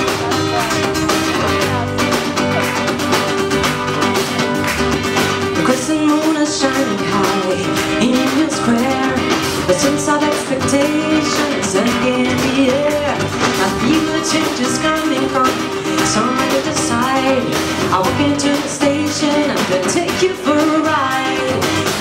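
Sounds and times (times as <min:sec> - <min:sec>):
acoustic guitar strummed: 0:00.0 - 0:22.0
drum kit: 0:00.0 - 0:22.0
melodic lead line: 0:00.0 - 0:22.0.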